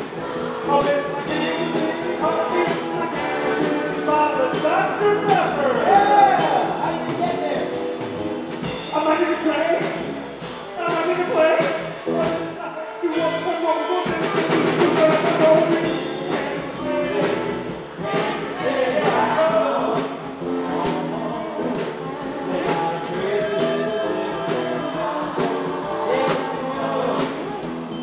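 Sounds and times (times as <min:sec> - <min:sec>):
person singing: 0:00.0 - 0:07.7, 0:10.5 - 0:28.0
acoustic guitar: 0:00.0 - 0:28.0
drum kit beat: 0:00.0 - 0:28.0.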